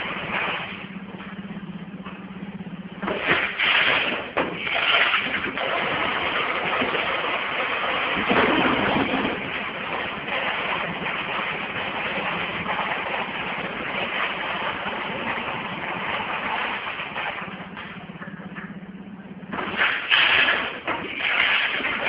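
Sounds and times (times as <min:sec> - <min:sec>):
machine low hum: 0:00.0 - 0:22.0.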